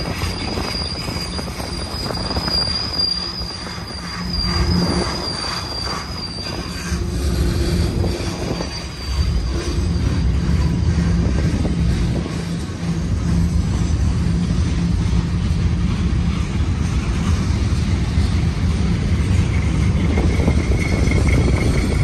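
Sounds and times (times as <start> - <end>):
high wheel squeal: 0.0 - 22.0
train wheels rumbling on rail: 0.0 - 22.0.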